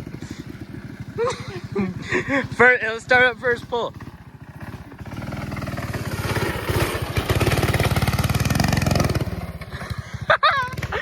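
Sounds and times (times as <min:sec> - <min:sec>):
small engine idling and revving: 0:00.0 - 0:11.0.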